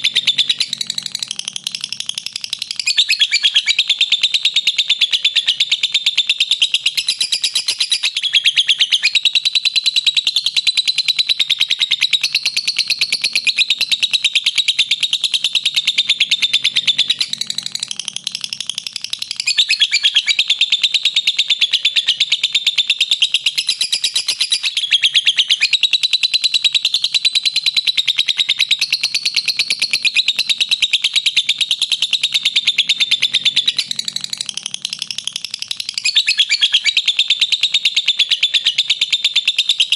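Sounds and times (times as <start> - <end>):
lovebird chattering call: 0.0 - 9.9, 10.6 - 39.9.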